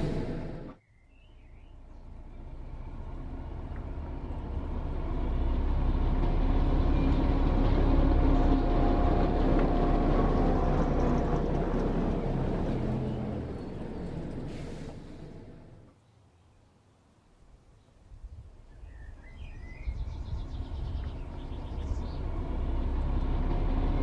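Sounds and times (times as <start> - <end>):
wheels rumbling on track: 0.0 - 15.9, 19.3 - 24.0.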